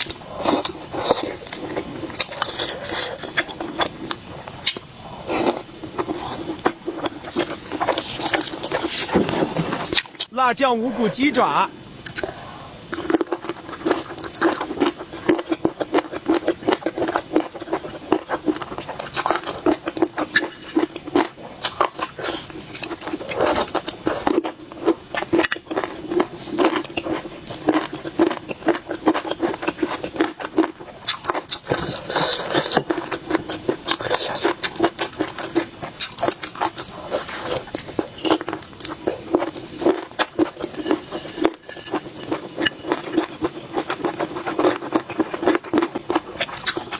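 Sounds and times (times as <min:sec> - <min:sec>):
crunchy chewing: 0:00.0 - 0:10.3, 0:11.9 - 0:46.9.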